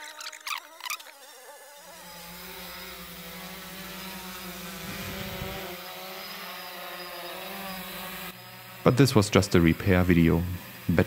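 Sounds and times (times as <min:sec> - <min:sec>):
drone motors buzzing: 0:00.0 - 0:11.0.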